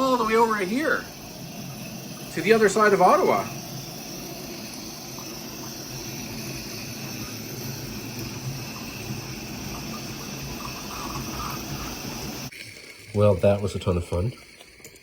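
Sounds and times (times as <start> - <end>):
steam hissing from locomotive: 0.0 - 14.8.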